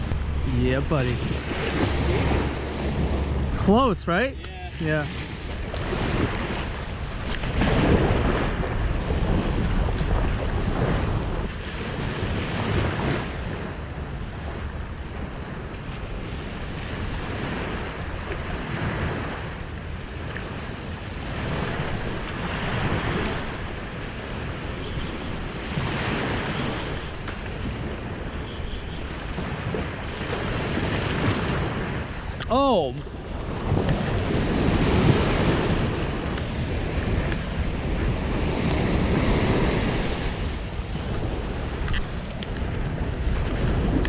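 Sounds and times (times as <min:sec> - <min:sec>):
surf washing onto beach: 0:00.0 - 0:44.0
wind buffeting microphone: 0:00.0 - 0:44.0.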